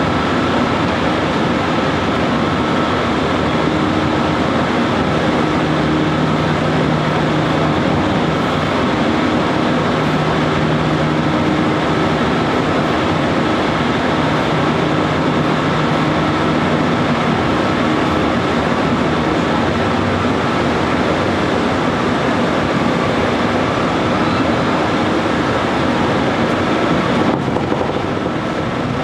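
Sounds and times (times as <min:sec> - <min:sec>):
wheels rushing on rail: 0:00.0 - 0:29.0.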